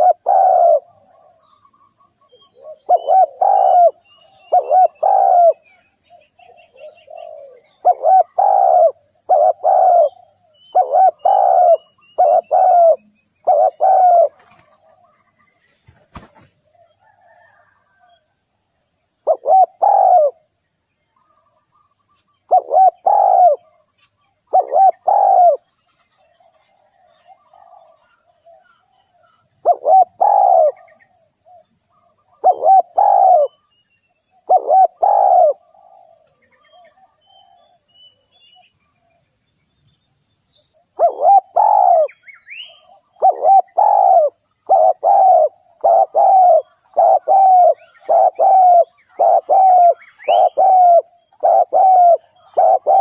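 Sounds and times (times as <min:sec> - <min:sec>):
dove cooing: 0:00.0 - 0:01.6, 0:02.2 - 0:15.3, 0:16.1 - 0:18.2, 0:19.2 - 0:20.5, 0:22.5 - 0:25.7, 0:26.4 - 0:33.7, 0:34.3 - 0:37.8, 0:40.8 - 0:53.0
faint small birds chirping: 0:00.0 - 0:53.0.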